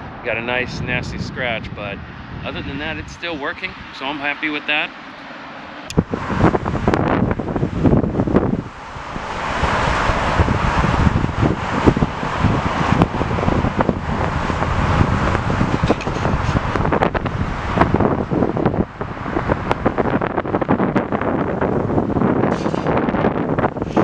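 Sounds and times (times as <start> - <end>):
wind buffeting microphone: 0.0 - 4.2, 5.9 - 24.0.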